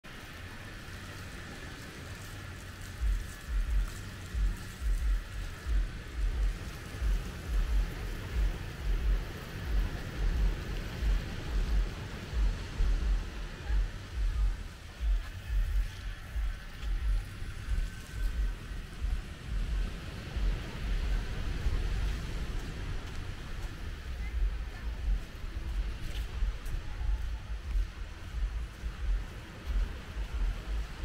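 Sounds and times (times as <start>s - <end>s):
steady hiss: 0.1s - 31.0s.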